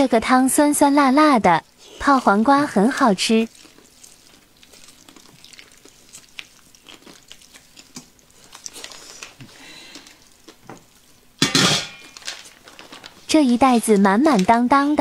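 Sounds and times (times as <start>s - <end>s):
plastic bag crackling: 1.3s - 15.0s.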